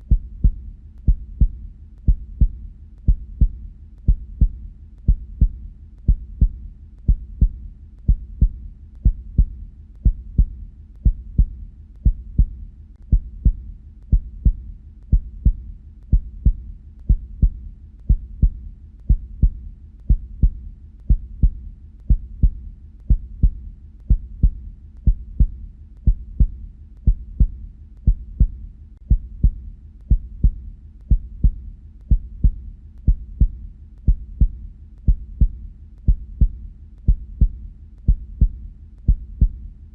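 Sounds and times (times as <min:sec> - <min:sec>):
human heartbeat: 0:00.0 - 0:39.8.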